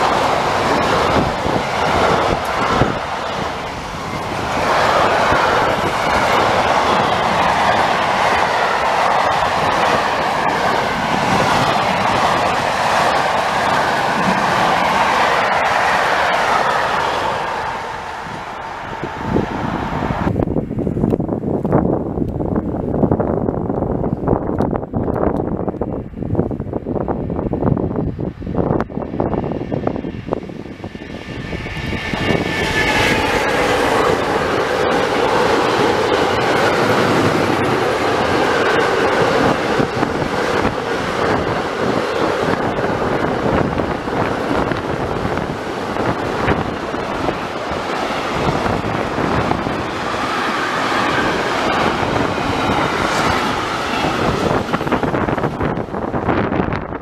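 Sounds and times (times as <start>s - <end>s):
freight train rumbling over rails: 0.0s - 57.0s.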